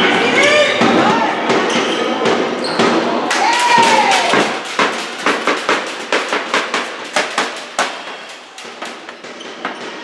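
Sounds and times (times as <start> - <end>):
ball bouncing on hall floor: 0.0 - 10.0.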